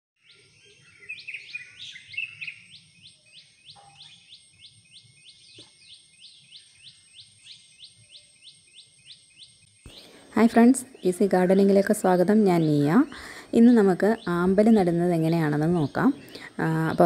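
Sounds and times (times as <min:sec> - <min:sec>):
bird chirping in series: 0:00.2 - 0:17.0
other birds chirping: 0:00.2 - 0:17.0.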